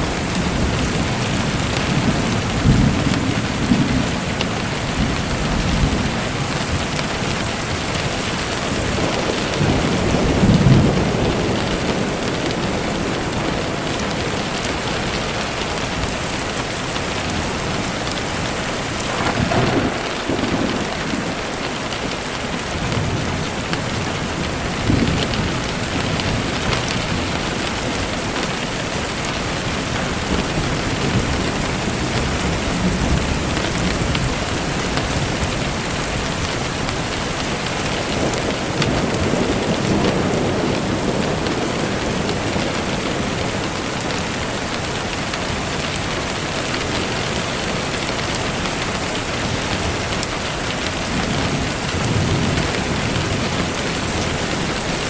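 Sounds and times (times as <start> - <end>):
distant thunder rumbling: 0.0 - 47.0
rain falling: 0.0 - 55.0.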